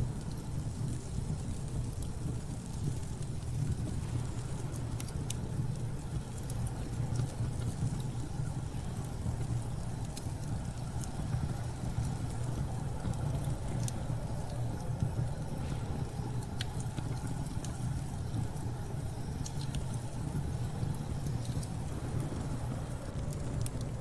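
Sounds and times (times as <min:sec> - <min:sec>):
storm wind rumble: 0:00.0 - 0:24.0
wood fire crackling and popping: 0:00.0 - 0:24.0.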